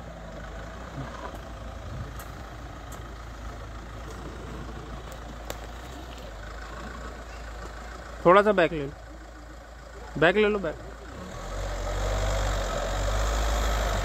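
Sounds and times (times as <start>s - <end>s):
vehicle engine running low: 0.0s - 14.0s.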